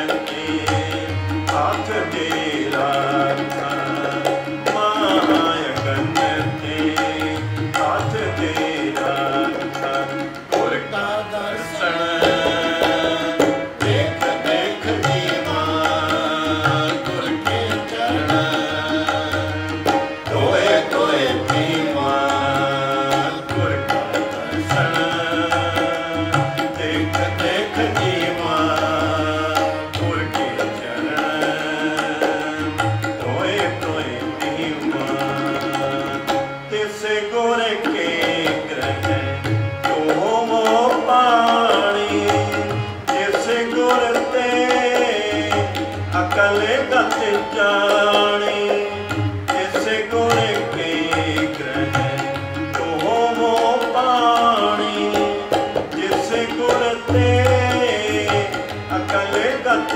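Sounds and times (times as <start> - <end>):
harmonium melody: 0.0 - 59.9
tabla: 0.0 - 59.9.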